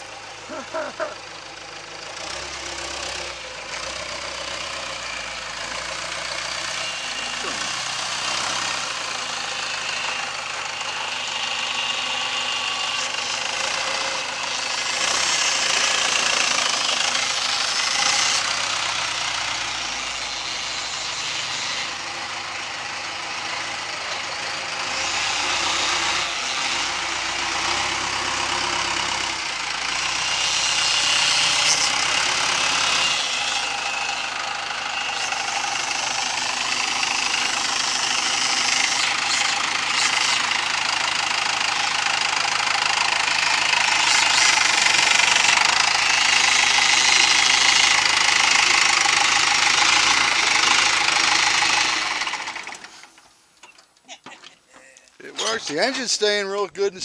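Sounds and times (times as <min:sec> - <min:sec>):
diesel truck engine clatter: 0:00.0 - 0:57.0.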